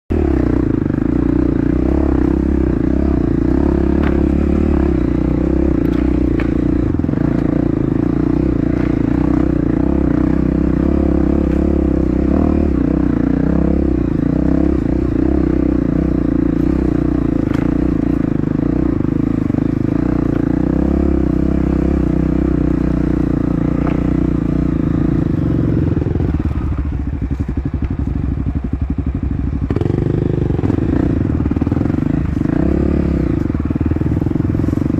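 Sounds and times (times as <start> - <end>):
dirt bike engine running: 0.1 - 34.9.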